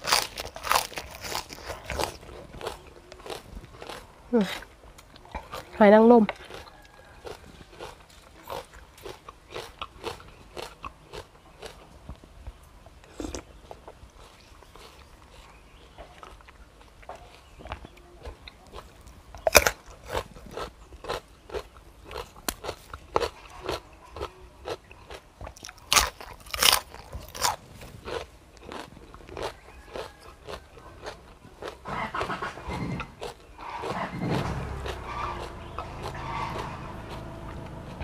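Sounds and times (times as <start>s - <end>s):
crisp wet chewing: 0.0s - 12.2s, 12.9s - 38.0s.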